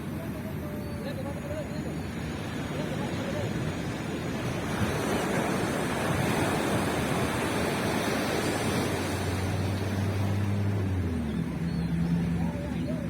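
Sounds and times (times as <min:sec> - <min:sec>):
low engine hum: 0:00.0 - 0:13.0
surf washing on beach: 0:00.0 - 0:13.0.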